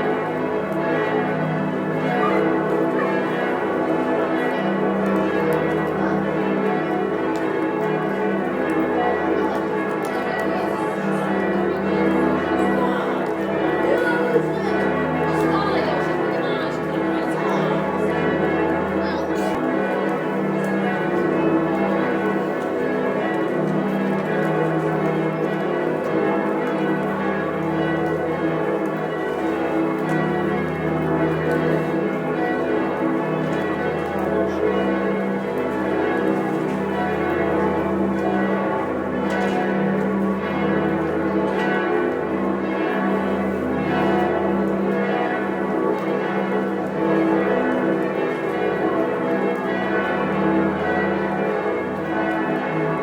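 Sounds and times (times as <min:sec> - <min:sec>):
church bells pealing: 0:00.0 - 0:53.0.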